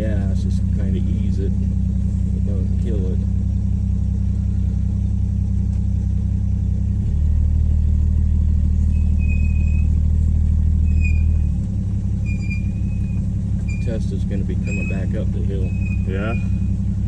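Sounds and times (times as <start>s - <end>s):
brakes squeaking: 0.0s - 17.0s
car engine running: 0.0s - 17.0s.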